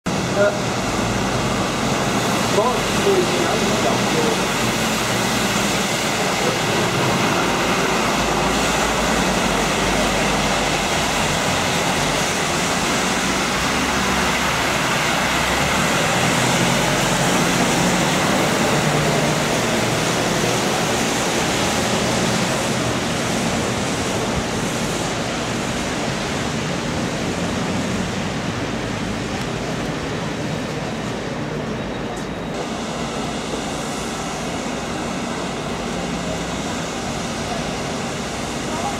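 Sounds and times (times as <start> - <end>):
bus engine rumble: 0.0 - 38.9
tyres hissing on wet road: 0.1 - 38.9.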